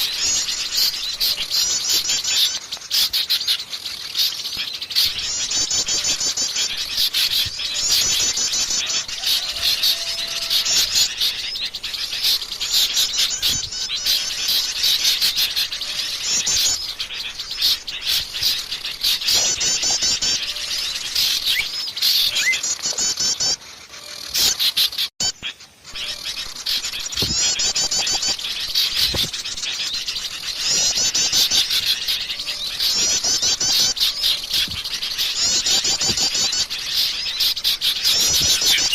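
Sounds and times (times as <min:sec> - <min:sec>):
rapid high bird trills: 0:00.0 - 0:38.9
small birds chirping chorus: 0:00.0 - 0:38.9.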